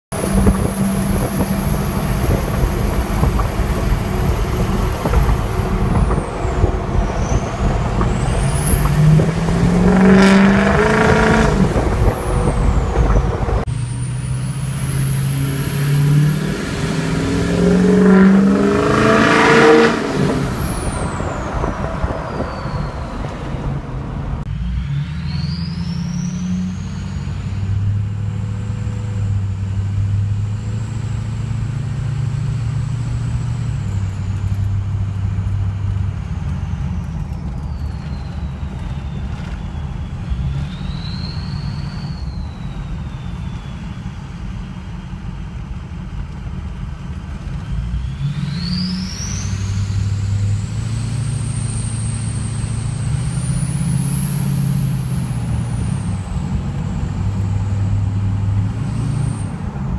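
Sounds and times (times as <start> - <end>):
diesel engine rumble: 0.0 - 59.9
turbo whistling: 0.2 - 13.2, 13.8 - 23.7, 24.9 - 45.2, 47.6 - 59.9.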